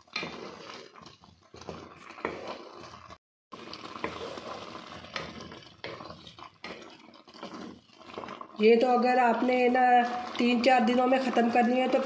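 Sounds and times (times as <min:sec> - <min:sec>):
spatula scraping metal pan: 0:00.0 - 0:12.0
thick chutney bubbling: 0:00.0 - 0:12.0.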